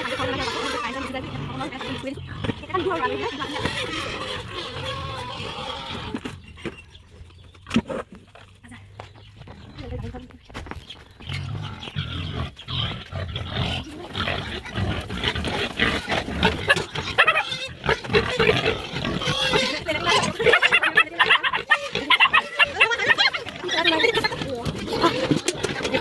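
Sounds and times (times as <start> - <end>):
pigs grunting and squealing: 0.0 - 10.1, 10.9 - 26.0.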